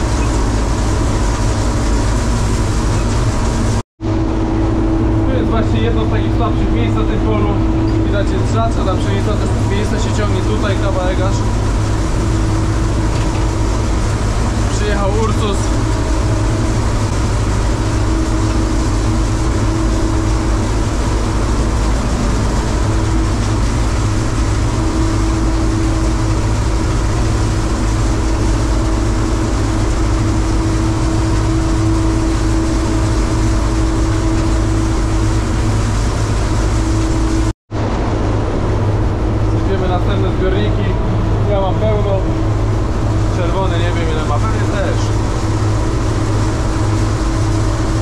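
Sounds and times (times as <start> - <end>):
farm machinery diesel engine rumbling: 0.0 - 48.0.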